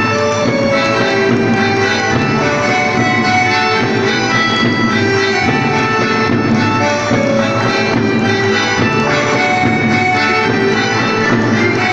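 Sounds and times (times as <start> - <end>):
instrumental music with held notes: 0.0 - 11.9.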